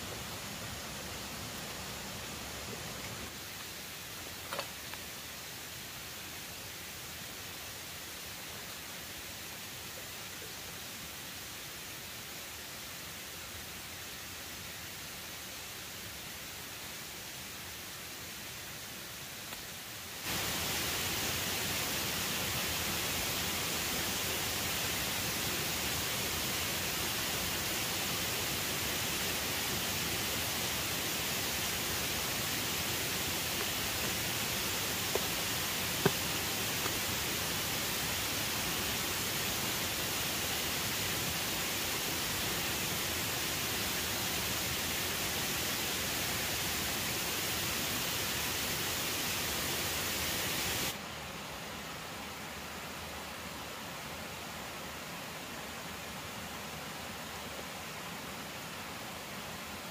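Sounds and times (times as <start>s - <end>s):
outdoor background hiss: 0.0s - 59.9s.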